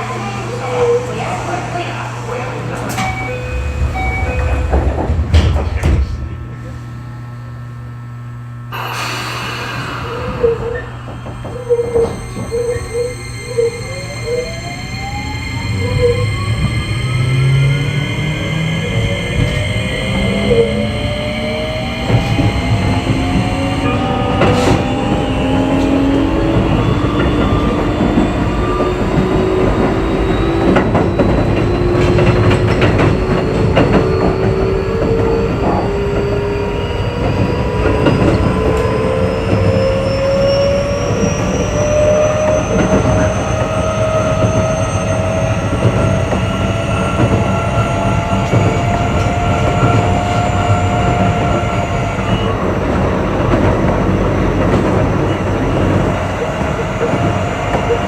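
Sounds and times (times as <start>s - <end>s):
electric train motors whining: 0.0s - 58.0s
train rumble: 0.0s - 58.0s.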